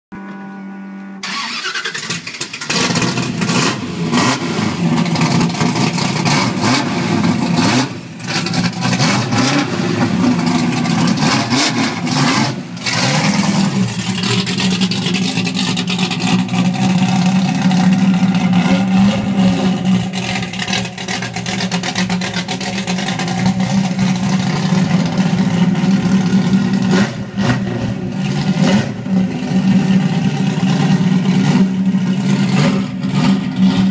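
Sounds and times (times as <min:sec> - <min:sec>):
car engine shifting gears: 0:01.2 - 0:33.9.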